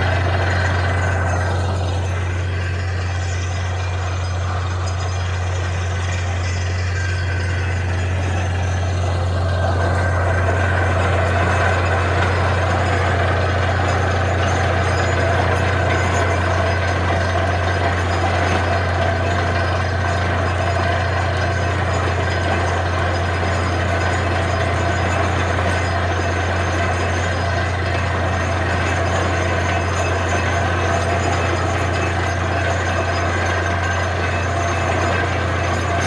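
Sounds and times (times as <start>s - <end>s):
heavy diesel engine droning: 0.0s - 36.0s.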